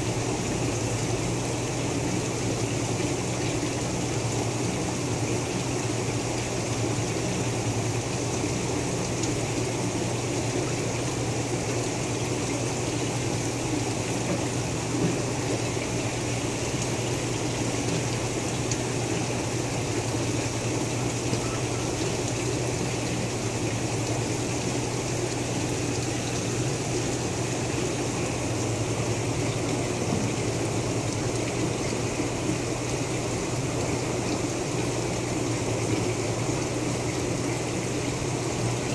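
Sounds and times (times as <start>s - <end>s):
pump low electric hum: 0.0s - 38.9s
trickling water: 0.0s - 38.9s.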